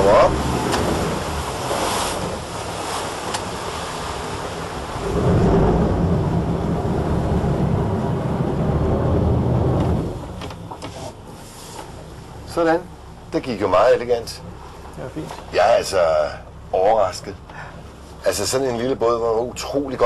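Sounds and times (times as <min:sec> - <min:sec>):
motorboat engine: 0:00.0 - 0:20.0
rushing water: 0:00.0 - 0:20.0.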